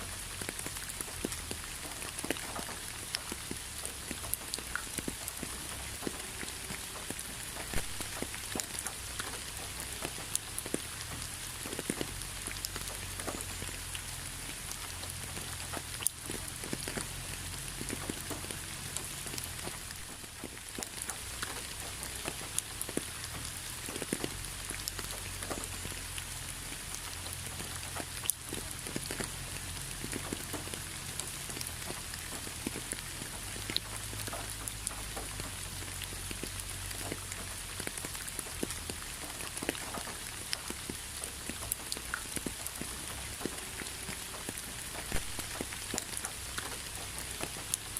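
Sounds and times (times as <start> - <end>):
rain drops ticking: 0.0 - 47.9
rain hiss: 0.0 - 47.9.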